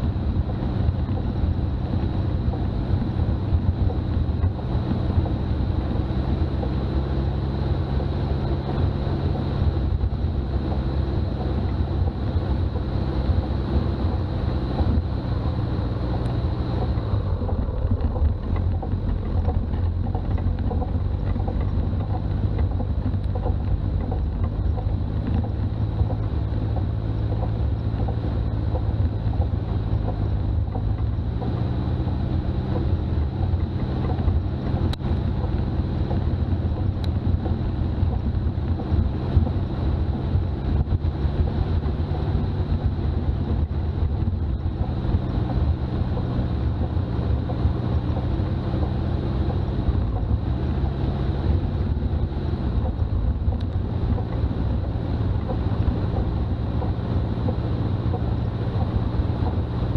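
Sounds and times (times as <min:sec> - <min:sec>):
diesel engine running: 0:00.0 - 0:59.9
road and wind rumble: 0:00.0 - 0:59.9.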